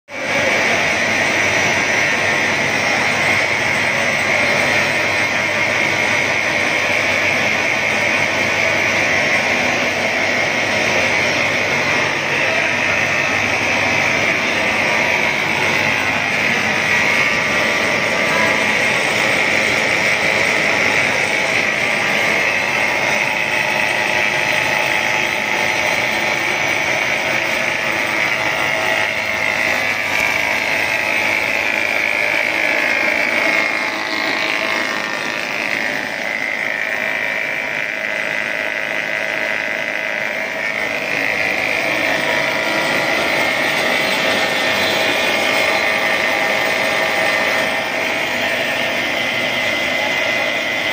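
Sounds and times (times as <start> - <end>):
machinery hum with high whine: 0.1 - 50.9.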